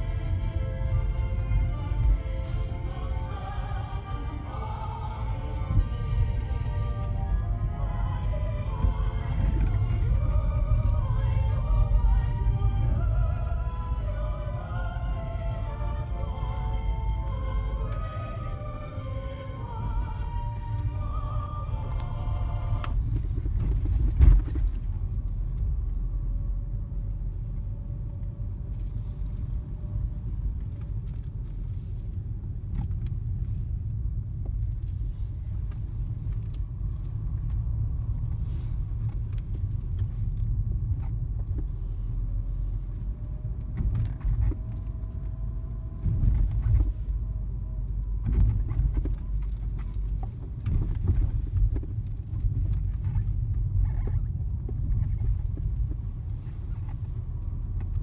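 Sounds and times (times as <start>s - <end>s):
car engine and tyres rumble: 0.0s - 58.0s.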